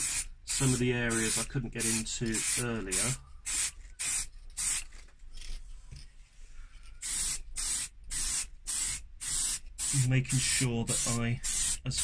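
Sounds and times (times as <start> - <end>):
spray-paint can hissing: 0.0 - 4.8, 7.0 - 12.0.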